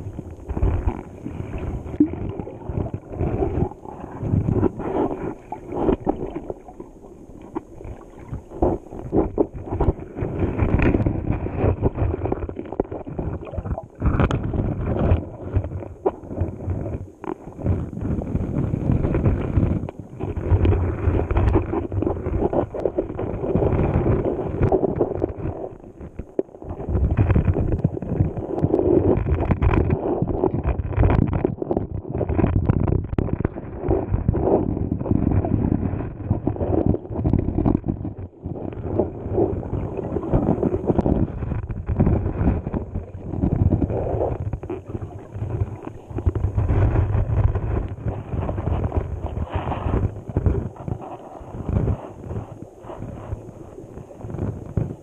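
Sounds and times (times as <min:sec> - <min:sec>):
muffled underwater river current: 0:00.0 - 0:55.0.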